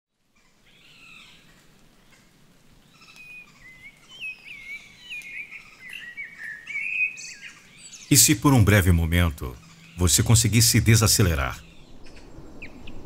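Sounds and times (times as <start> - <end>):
faint steady hiss: 0.2 - 13.0
bird chirping: 0.4 - 13.0.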